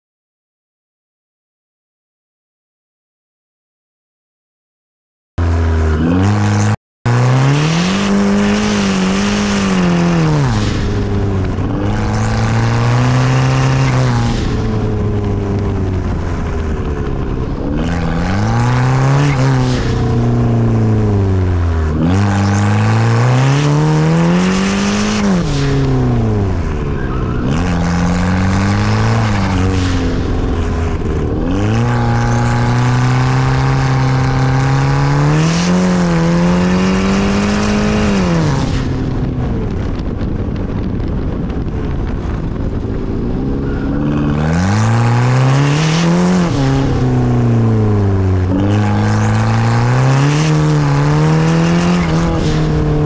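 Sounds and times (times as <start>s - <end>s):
car engine revving under acceleration: 5.4s - 53.0s.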